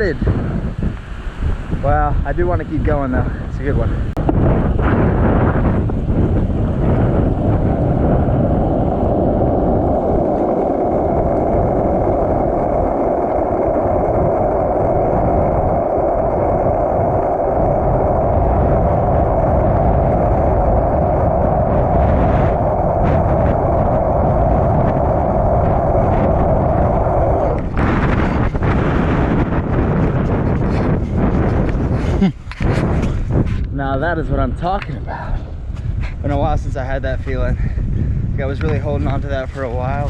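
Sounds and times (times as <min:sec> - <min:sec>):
wind rumbling on microphone: 0:00.0 - 0:40.0.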